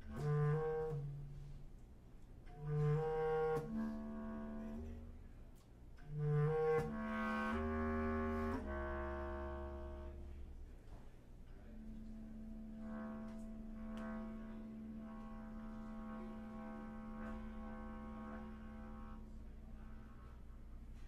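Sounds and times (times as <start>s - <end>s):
bass clarinet low note: 0.0s - 1.8s, 2.5s - 5.4s, 6.0s - 10.6s, 11.5s - 21.0s.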